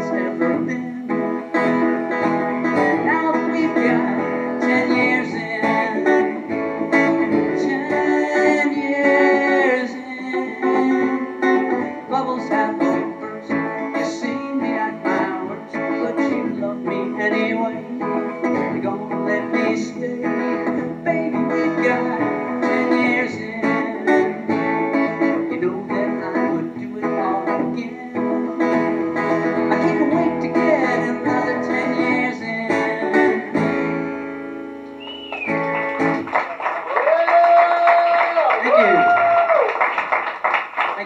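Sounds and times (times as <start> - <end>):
acoustic guitar strumming: 0.0 - 36.4.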